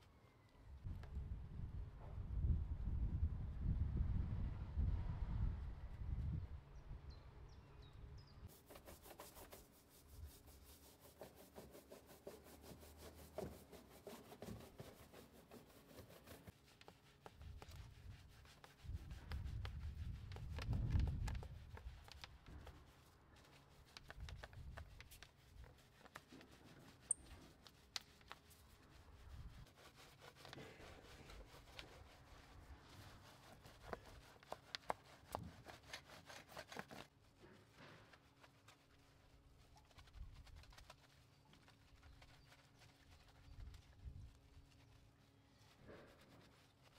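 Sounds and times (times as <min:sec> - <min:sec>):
brushes scrubbing car wheel: 0:08.5 - 0:46.9.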